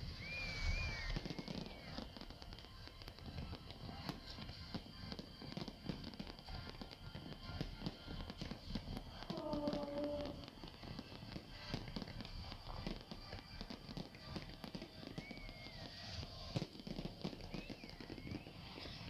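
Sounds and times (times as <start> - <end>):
firework whistle: 0.0 - 19.0
fireworks crackling and banging: 0.0 - 19.0
music: 0.0 - 19.0.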